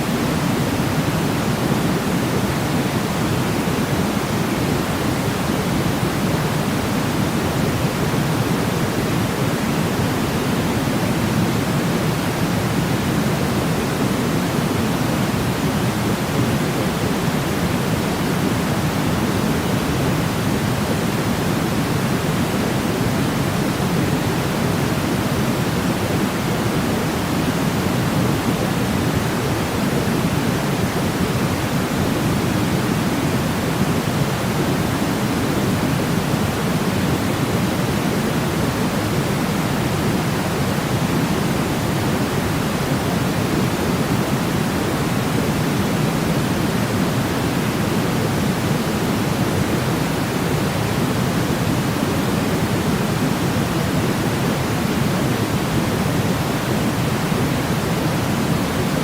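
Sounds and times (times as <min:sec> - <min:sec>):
pink noise: 0:00.0 - 0:59.0.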